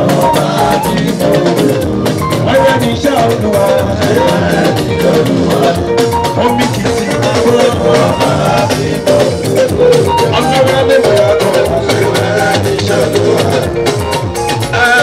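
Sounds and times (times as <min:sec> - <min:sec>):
music with drum beat: 0:00.0 - 0:15.0.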